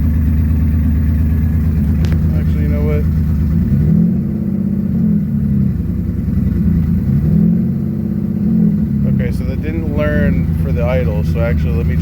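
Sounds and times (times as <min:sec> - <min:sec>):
car engine idling unevenly: 0:00.0 - 0:12.0.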